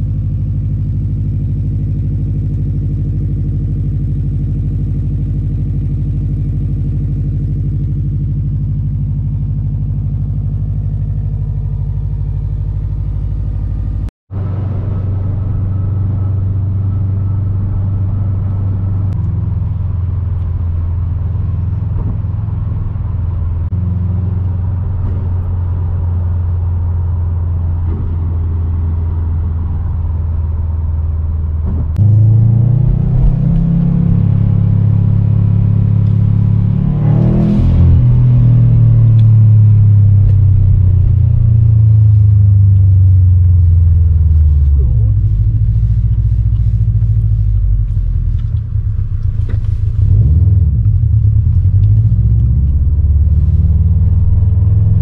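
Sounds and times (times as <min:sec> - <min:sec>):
car engine drone: 0:00.0 - 0:55.0.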